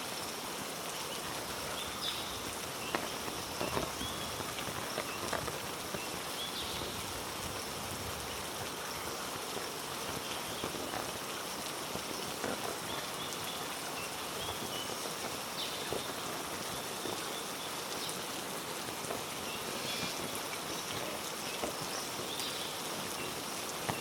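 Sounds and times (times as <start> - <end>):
heavy rain on foliage: 0.0 - 24.0
raindrop taps: 1.2 - 24.0.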